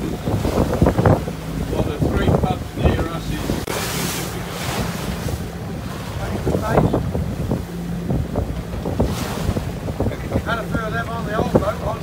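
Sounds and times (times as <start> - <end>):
bow wave splashing: 0.0 - 12.0
wind buffeting microphone: 0.0 - 12.0.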